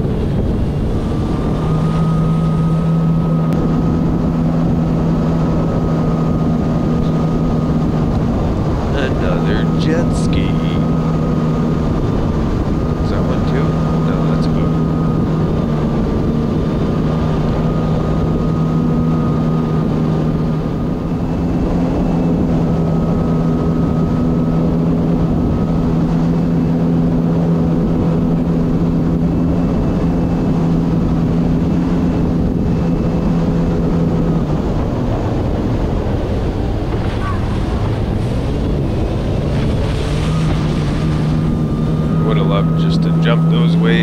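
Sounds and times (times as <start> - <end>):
jet ski engine droning: 0.0 - 44.0
rushing wind and water: 0.0 - 44.0.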